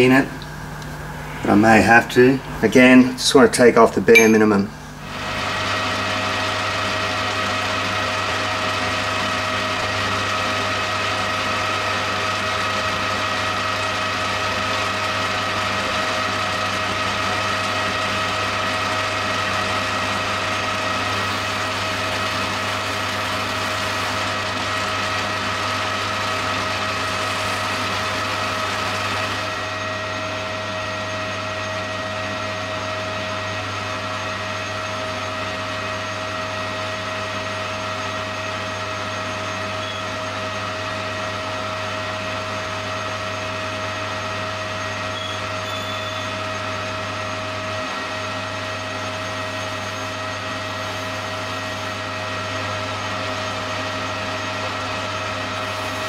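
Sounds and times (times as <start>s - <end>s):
metal lathe cutting: 4.2s - 56.0s.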